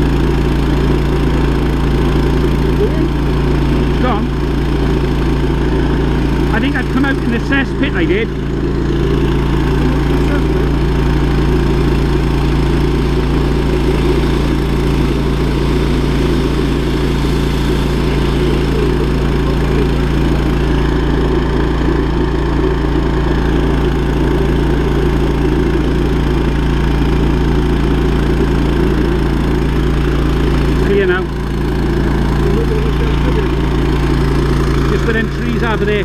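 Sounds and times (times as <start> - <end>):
machine engine running steadily: 0.0 - 36.0.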